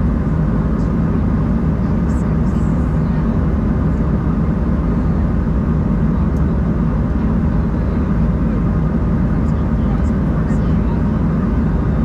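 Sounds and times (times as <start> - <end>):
airflow rush in cabin: 0.0 - 12.0
jet engines droning: 0.0 - 12.0.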